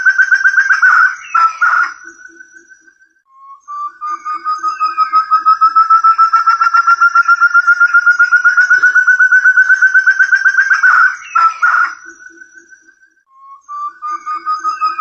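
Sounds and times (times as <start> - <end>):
partridge whistled calls: 0.0 - 2.9, 3.5 - 15.0.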